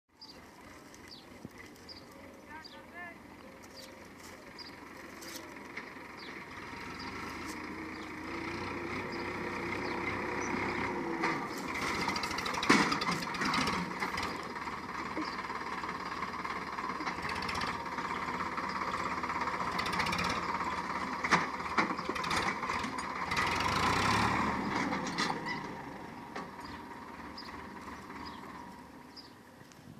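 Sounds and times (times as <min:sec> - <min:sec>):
tractor engine running hard: 0:00.2 - 0:29.7.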